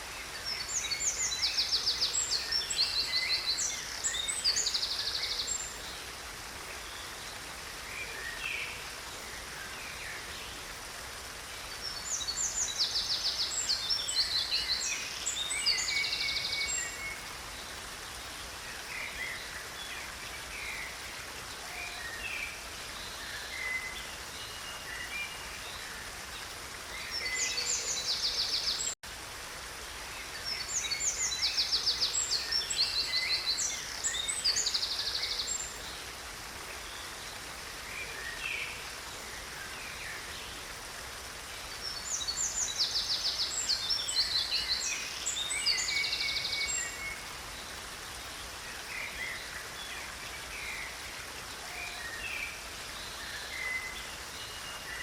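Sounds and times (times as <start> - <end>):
songbirds calling: 0.0 - 55.0
stream rushing: 0.0 - 55.0.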